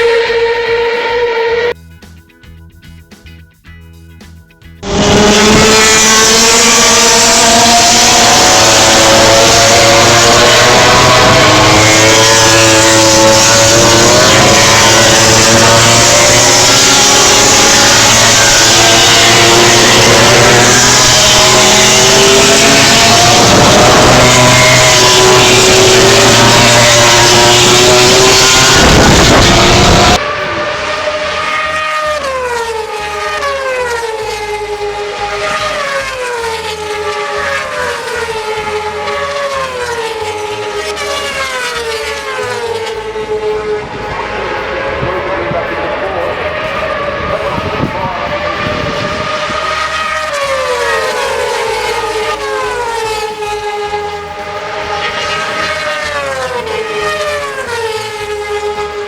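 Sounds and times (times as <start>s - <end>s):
racing engines at full throttle: 0.0s - 1.8s, 4.7s - 59.0s
single engine revving: 4.8s - 59.0s.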